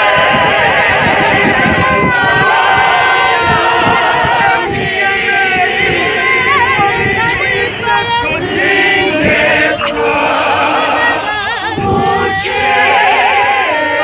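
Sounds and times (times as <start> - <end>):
women singing a cappella: 0.0 - 14.0.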